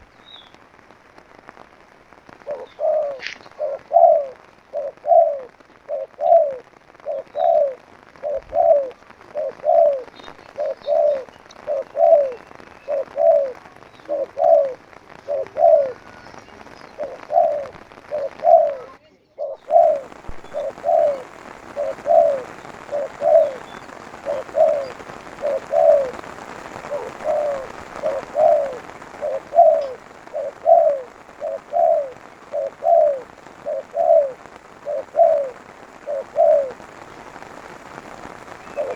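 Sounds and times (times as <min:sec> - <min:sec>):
steady hiss: 0:00.0 - 0:38.9
dove cooing: 0:02.4 - 0:37.1, 0:38.4 - 0:38.9.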